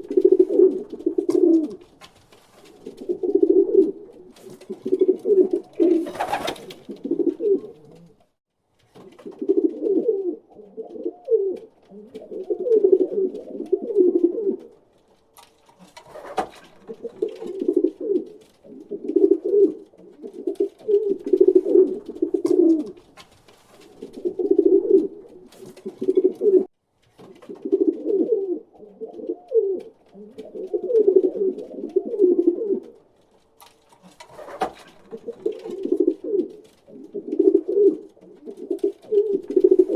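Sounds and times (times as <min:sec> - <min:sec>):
pigeon cooing: 0:00.0 - 0:01.9, 0:02.7 - 0:08.3, 0:09.2 - 0:14.8, 0:15.8 - 0:23.0, 0:23.9 - 0:26.7, 0:27.4 - 0:33.0, 0:34.0 - 0:39.9.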